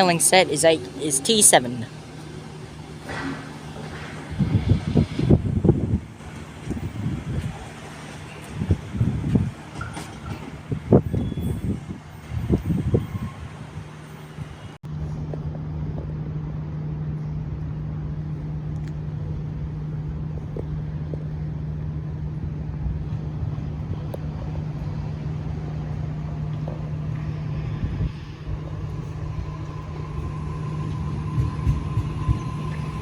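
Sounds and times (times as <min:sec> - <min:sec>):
electric train humming: 0:00.0 - 0:33.0.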